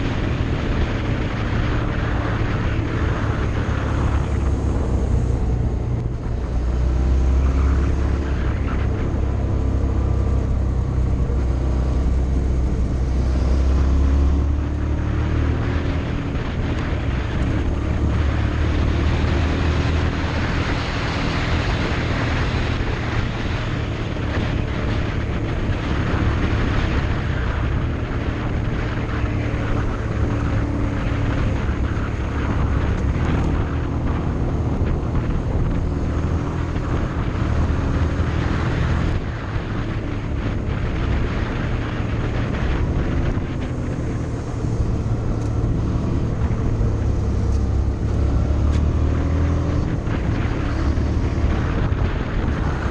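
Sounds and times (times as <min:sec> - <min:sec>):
heavy wind noise: 0:00.0 - 0:52.9
motorcycle engine running: 0:00.0 - 0:52.9.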